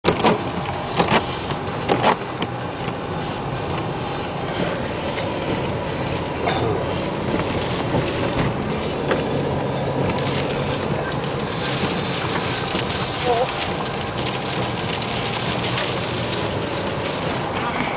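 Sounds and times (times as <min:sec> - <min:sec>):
rain: 0:00.1 - 0:17.9.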